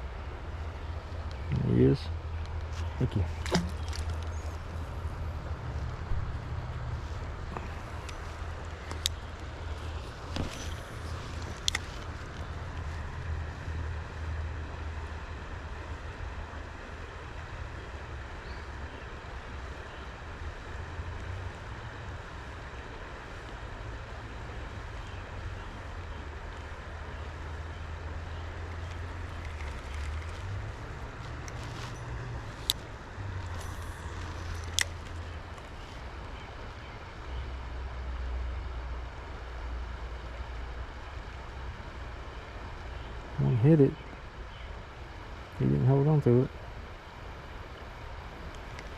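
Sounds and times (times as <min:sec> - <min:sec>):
wind rumble on microphone: 0:00.0 - 0:43.6
creek water running: 0:00.0 - 0:48.9
steady outdoor rush: 0:00.0 - 0:48.9.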